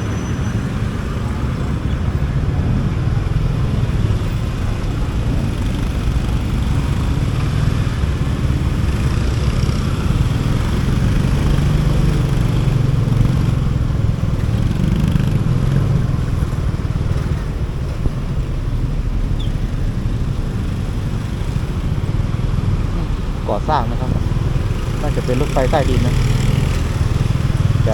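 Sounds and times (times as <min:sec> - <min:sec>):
motorcycle engine running: 0:00.0 - 0:27.9
road noise: 0:00.0 - 0:27.9.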